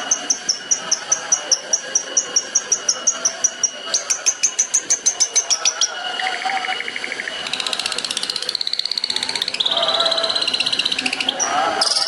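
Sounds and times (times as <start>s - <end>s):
bird singing rapid trills: 0.0s - 12.0s.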